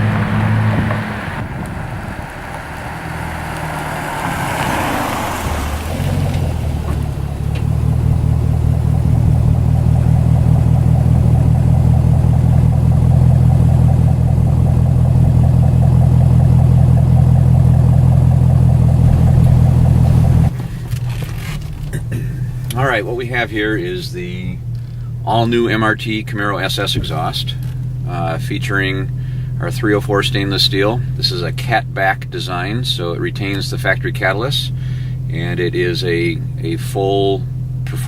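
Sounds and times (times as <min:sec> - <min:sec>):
car engine exhaust note: 0:00.0 - 0:38.0.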